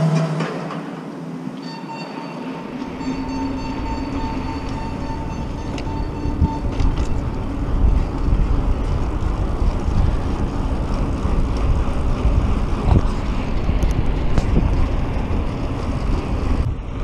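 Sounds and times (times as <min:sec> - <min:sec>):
bike tyres rolling on pavement: 0:01.8 - 0:17.0
wind on microphone: 0:03.1 - 0:17.0.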